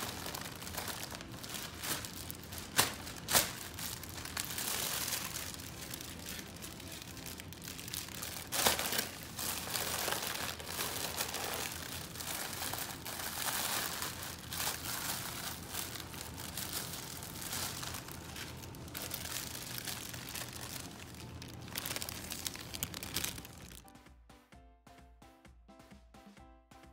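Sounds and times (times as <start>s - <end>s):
plastic film crinkling: 0.0s - 23.9s
quiet music: 0.0s - 26.9s.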